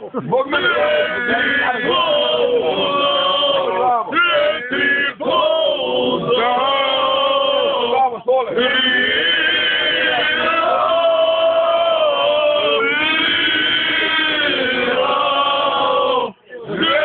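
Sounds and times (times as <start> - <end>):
men singing together: 0.4 - 17.0.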